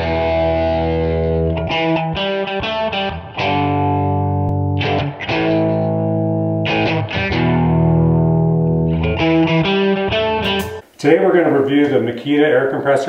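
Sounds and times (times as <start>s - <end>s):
distorted guitar chords: 0.0s - 10.9s.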